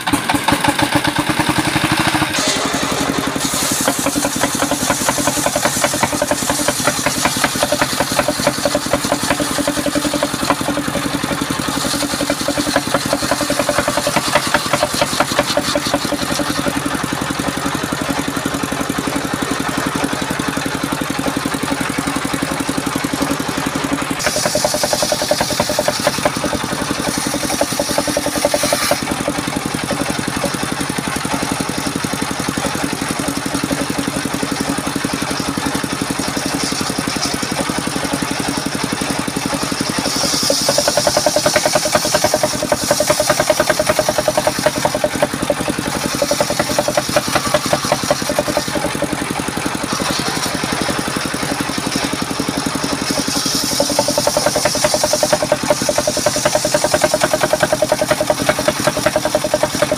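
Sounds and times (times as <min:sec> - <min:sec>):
circular saw blade cutting wood: 0:00.0 - 0:59.9
diesel engine running: 0:00.0 - 0:59.9.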